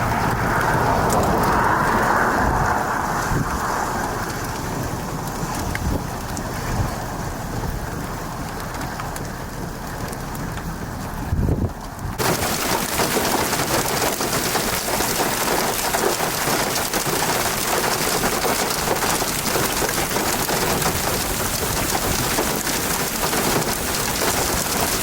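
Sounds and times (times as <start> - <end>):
heavy rain pelting down: 0.0 - 25.0.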